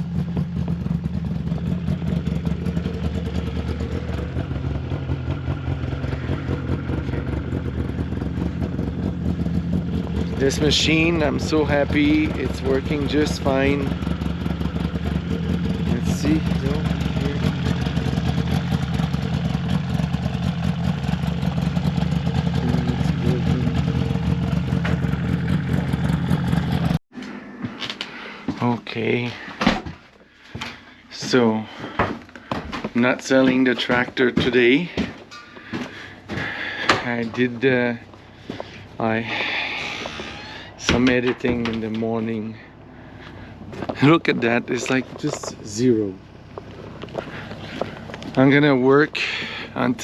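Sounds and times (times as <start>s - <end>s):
snowmobile engine droning: 0.0s - 27.0s, 32.9s - 50.0s.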